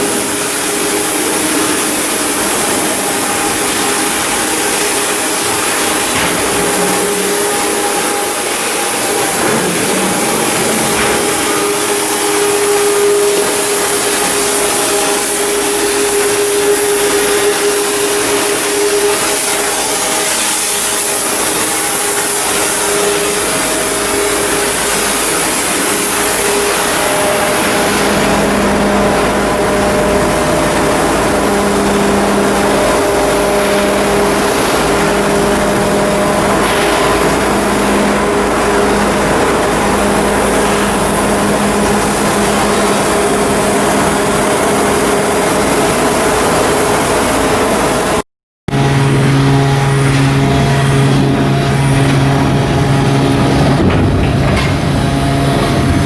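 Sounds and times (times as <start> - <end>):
loud machinery noise with tones: 0.0 - 56.0.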